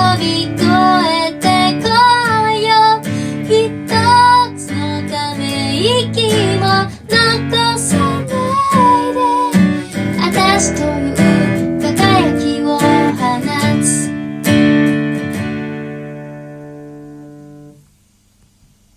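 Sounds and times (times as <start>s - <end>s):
acoustic guitar strumming: 0.0s - 17.9s.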